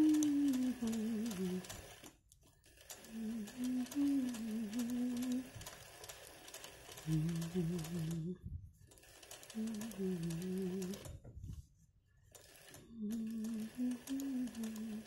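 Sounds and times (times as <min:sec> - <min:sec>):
sewing machine stitching: 0:00.0 - 0:08.2, 0:08.9 - 0:11.2, 0:12.3 - 0:15.0.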